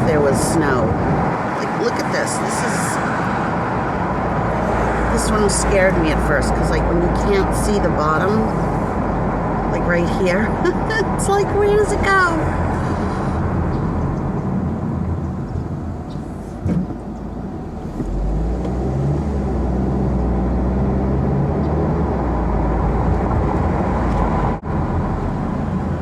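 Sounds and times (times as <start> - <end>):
car engine: 0.0 - 26.0
road and wind rumble: 0.0 - 26.0.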